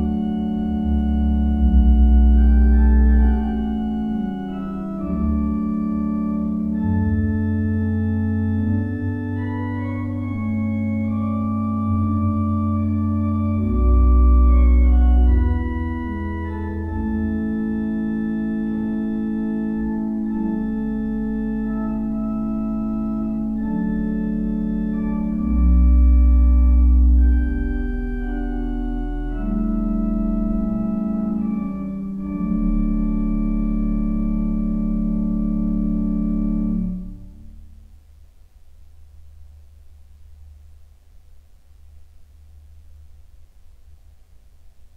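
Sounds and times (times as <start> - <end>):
church organ chords: 0.0 - 38.1
deep bass pedal notes: 0.0 - 38.2.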